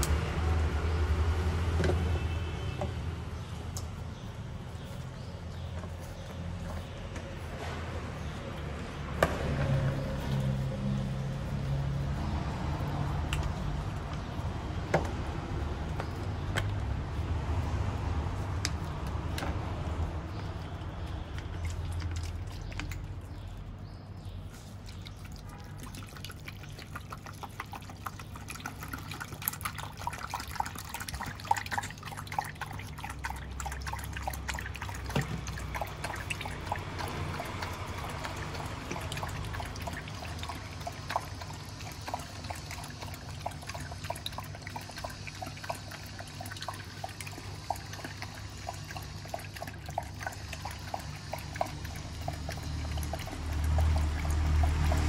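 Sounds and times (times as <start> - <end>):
dogs lapping from bowl: 0.0 - 55.0.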